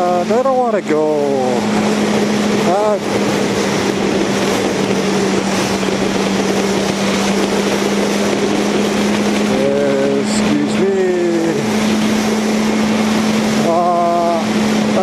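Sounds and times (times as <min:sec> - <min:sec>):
motorcycle engine cruising: 0:00.0 - 0:15.0
wind noise: 0:00.0 - 0:15.0.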